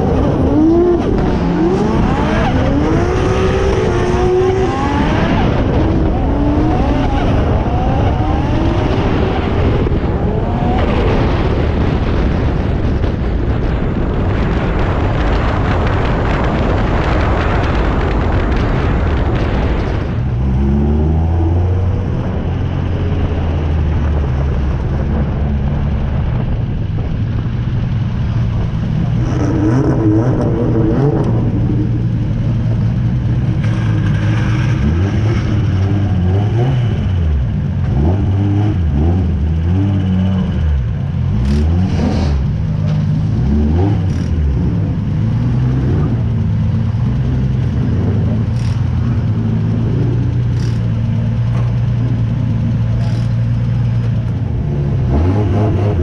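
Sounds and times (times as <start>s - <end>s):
car engine at low revs: 0.0s - 56.0s.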